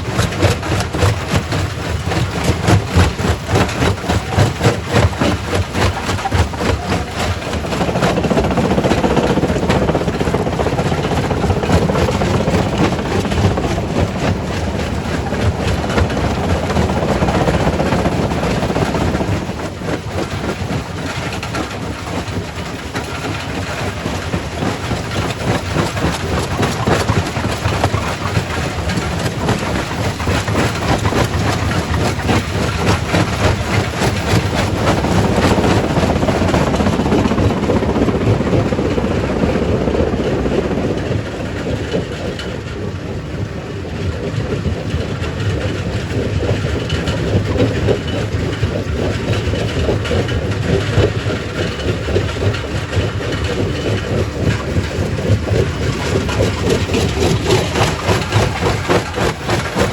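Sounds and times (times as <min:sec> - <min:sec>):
heavy mechanical rumble: 0:00.0 - 0:59.9.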